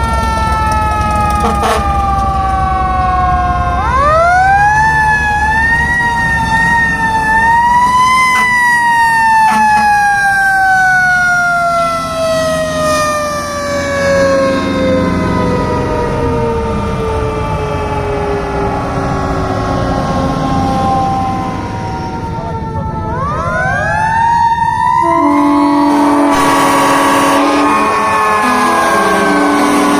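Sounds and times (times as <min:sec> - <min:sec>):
fire truck mechanical sirens wailing: 0:00.0 - 0:29.9
truck engines rumbling: 0:00.0 - 0:29.9.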